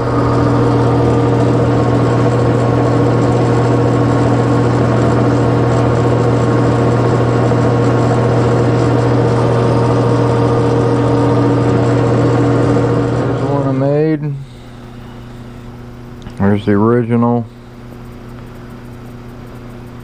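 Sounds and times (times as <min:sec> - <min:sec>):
metal lathe humming: 0:00.0 - 0:16.5.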